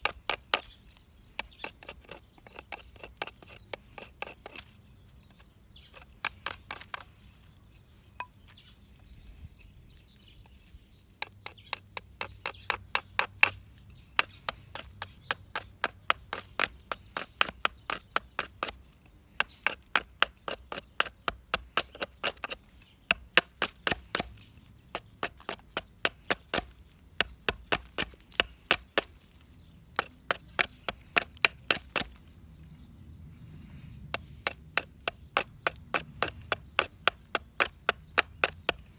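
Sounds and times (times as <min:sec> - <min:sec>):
hand tool chopping wood: 0:00.0 - 0:04.8, 0:05.9 - 0:07.2, 0:11.2 - 0:32.3, 0:34.1 - 0:38.9.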